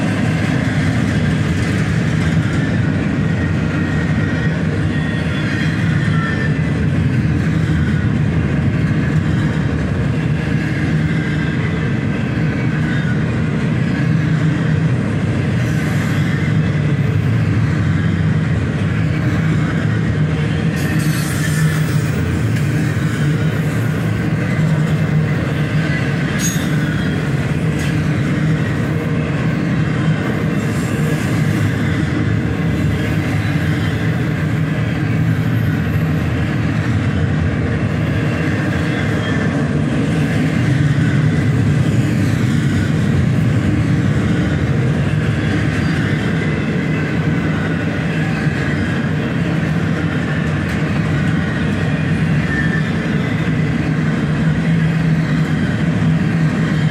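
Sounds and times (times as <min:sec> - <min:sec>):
freight train wheels rumbling on rails: 0:00.0 - 0:56.9.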